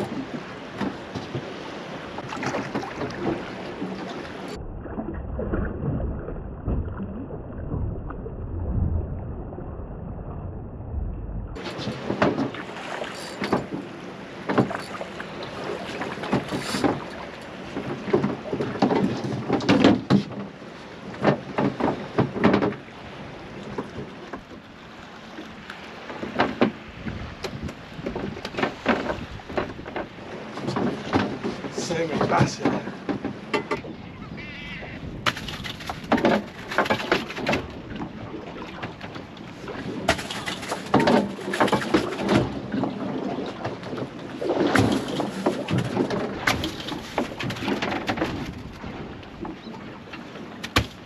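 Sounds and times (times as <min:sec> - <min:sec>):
wind rumbling on microphone: 0:00.0 - 0:50.4
water slapping boat hull: 0:00.0 - 0:51.0.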